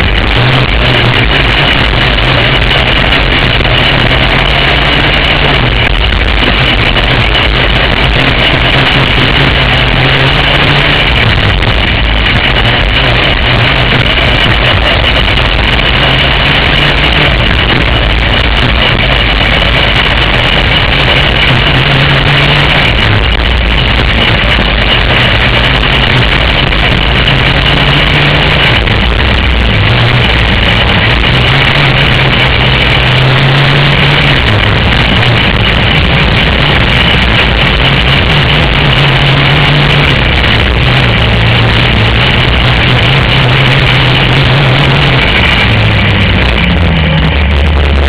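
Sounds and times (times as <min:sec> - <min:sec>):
racing kart engine: 0:00.0 - 0:48.0.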